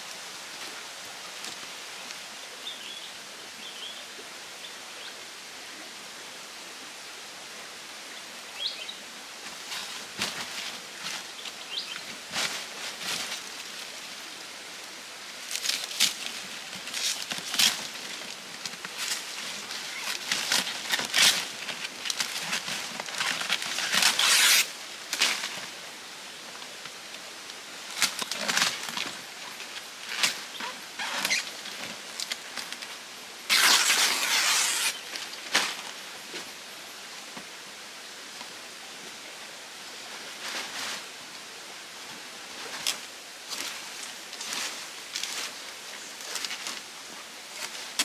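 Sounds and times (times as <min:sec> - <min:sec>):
stream water flowing: 0:00.0 - 0:48.0
palm fronds rustling: 0:08.6 - 0:48.0.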